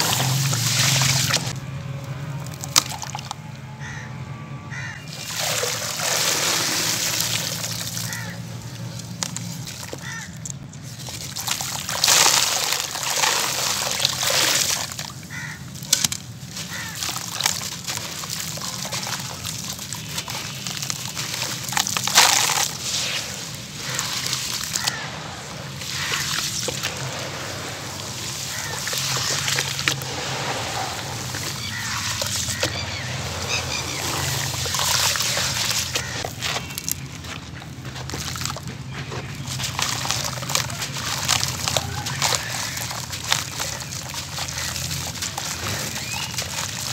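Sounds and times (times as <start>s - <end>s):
cement chunks splashing into water: 0.0s - 1.6s, 2.4s - 3.4s, 5.1s - 46.9s
hands sloshing through water: 0.0s - 1.6s, 5.1s - 46.9s.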